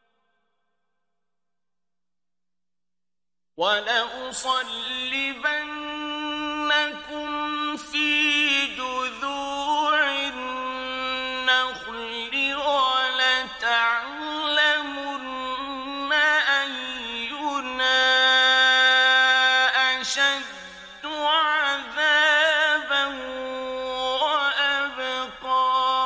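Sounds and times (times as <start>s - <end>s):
man chanting recitation: 3.6s - 26.0s.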